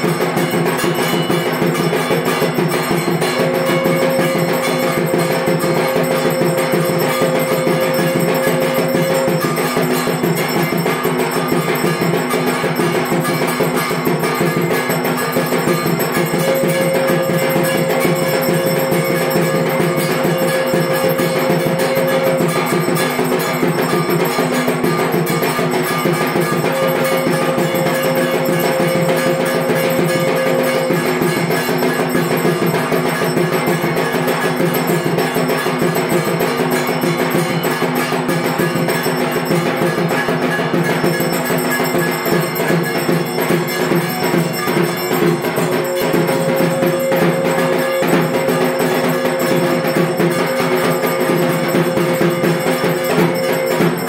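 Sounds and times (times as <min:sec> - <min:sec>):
drums: 0:00.0 - 0:54.0
metal bells clanging: 0:00.0 - 0:54.0.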